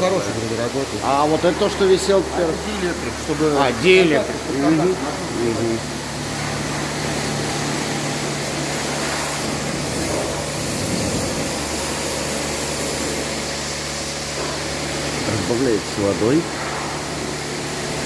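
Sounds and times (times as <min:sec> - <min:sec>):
machinery hum and hiss: 0:00.0 - 0:18.0.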